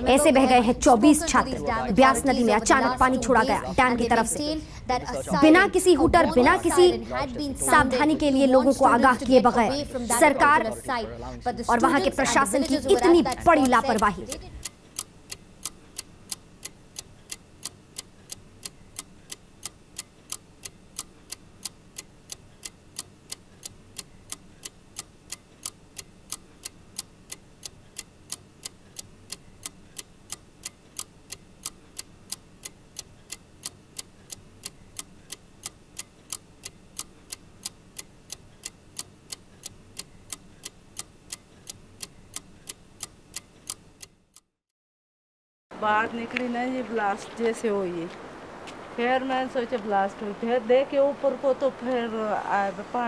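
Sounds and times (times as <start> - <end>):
low steady hum: 0.0 - 43.4
clock ticking: 0.0 - 44.5.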